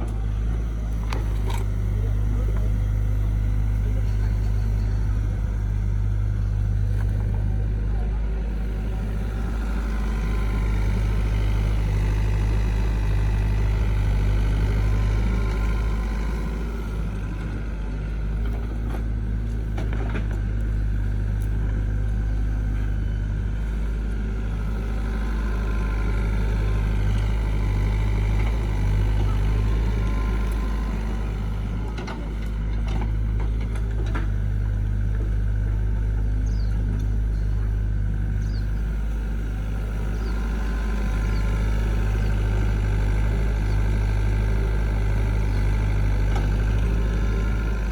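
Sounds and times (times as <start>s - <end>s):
heavy machine engine droning: 0.0s - 47.9s.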